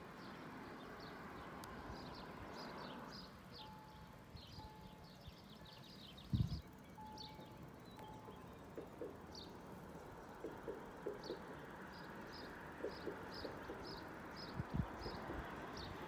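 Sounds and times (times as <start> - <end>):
small bird chirping: 1.0 - 16.0.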